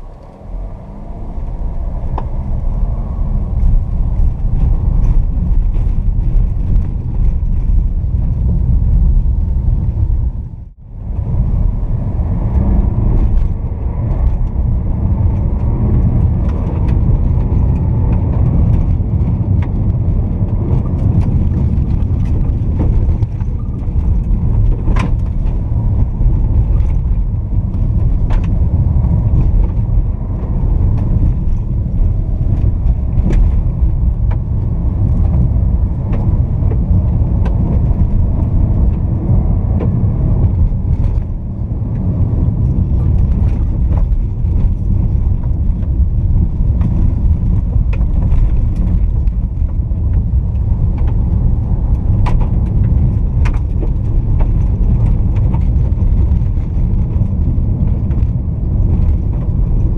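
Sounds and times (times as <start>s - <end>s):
tyres and engine rumble: 0.0s - 59.9s.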